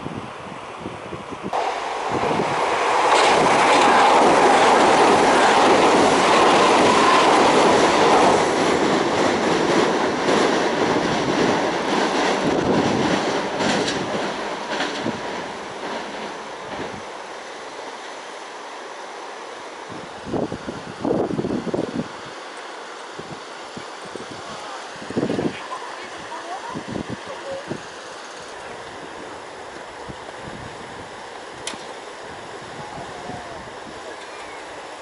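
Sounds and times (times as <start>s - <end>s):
train running past on rails: 0.0s - 35.0s.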